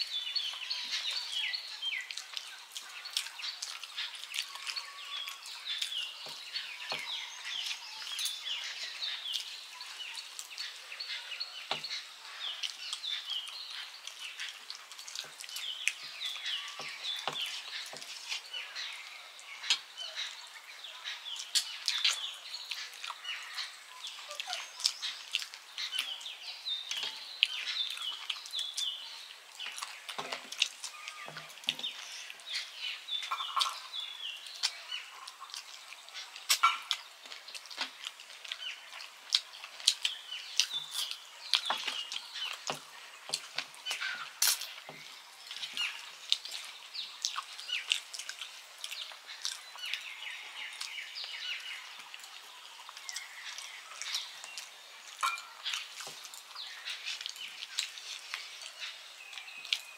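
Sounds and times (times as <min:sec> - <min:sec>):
small birds chirping: 0:00.0 - 0:59.9
chewing: 0:00.3 - 0:59.9.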